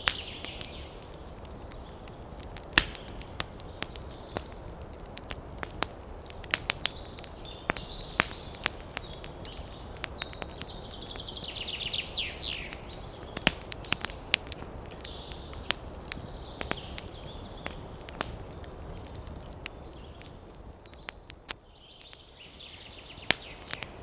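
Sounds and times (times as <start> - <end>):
birds chirping: 0.0 - 24.0
campfire crackling and popping: 0.0 - 24.0.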